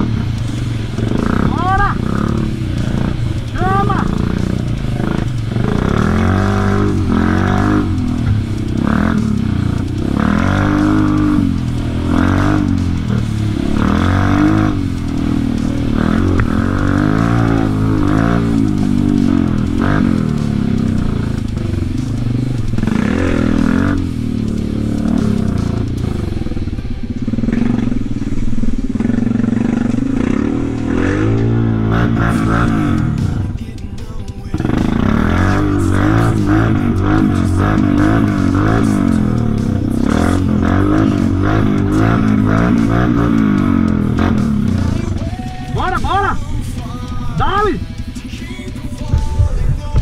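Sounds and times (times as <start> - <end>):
quad bike engine revving: 0.0 - 50.0.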